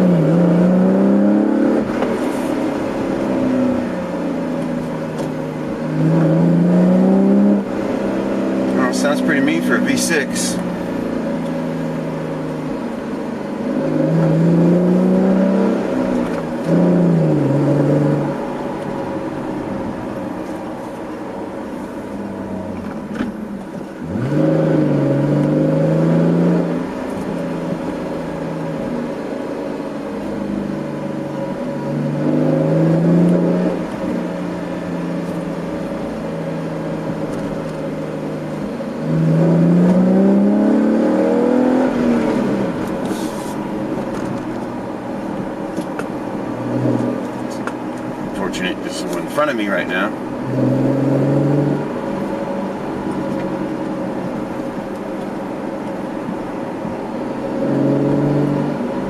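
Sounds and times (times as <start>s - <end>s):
car exhaust revving hard: 0.0s - 59.0s.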